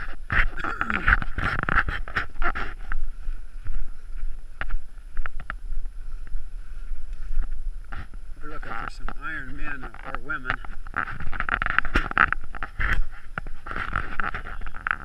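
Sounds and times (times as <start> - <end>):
footsteps in snow: 0.0 - 15.0
wind on microphone: 0.0 - 15.0.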